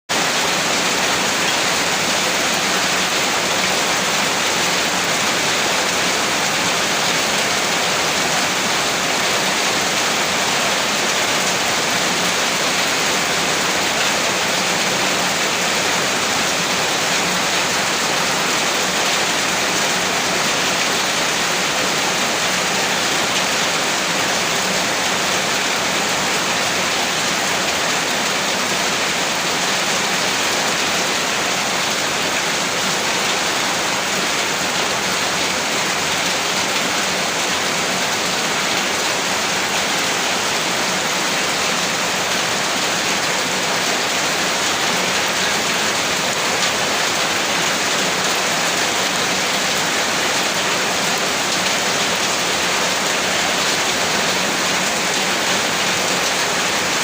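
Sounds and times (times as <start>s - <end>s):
heavy rain: 0.1s - 57.0s.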